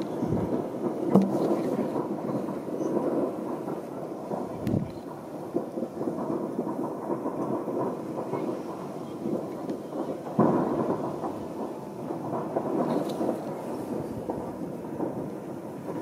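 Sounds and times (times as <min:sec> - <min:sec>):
distant fireworks booming: 0:00.0 - 0:16.0.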